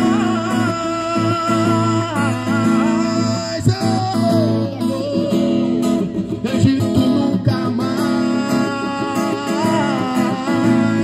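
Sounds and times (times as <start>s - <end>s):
acoustic guitar strumming chords: 0.0s - 11.0s
man singing into microphone: 0.0s - 11.0s.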